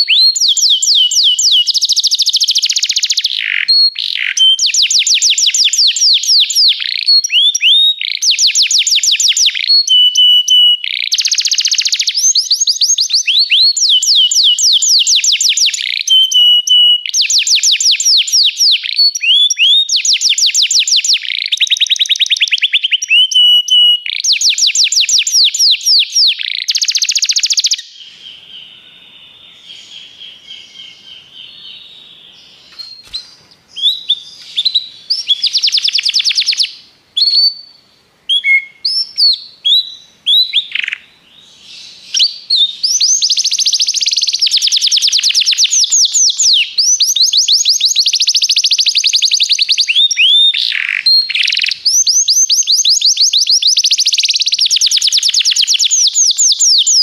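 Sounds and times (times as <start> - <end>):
canary singing trills: 0.0 - 57.0
faint bird chirping: 0.0 - 57.0.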